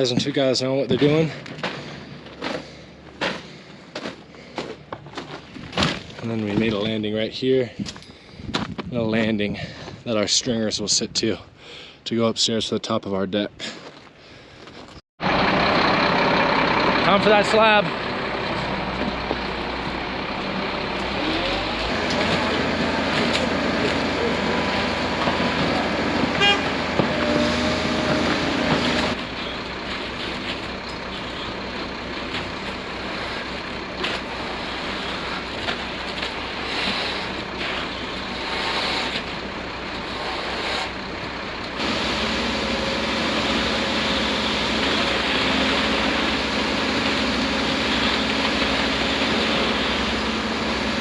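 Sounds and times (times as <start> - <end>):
heavy vehicle engines running: 0.0 - 8.5, 14.6 - 51.0.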